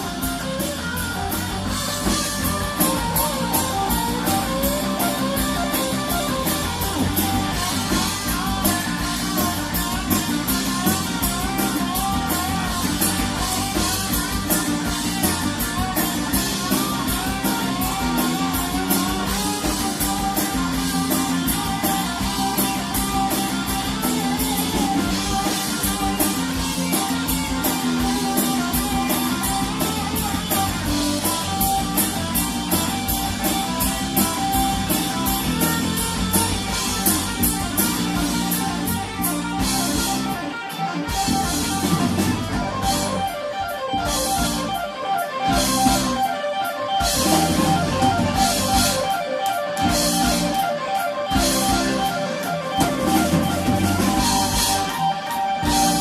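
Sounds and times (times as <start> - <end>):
electric lead guitar bending notes: 0.0 - 56.0
live rock band playing: 0.0 - 56.0.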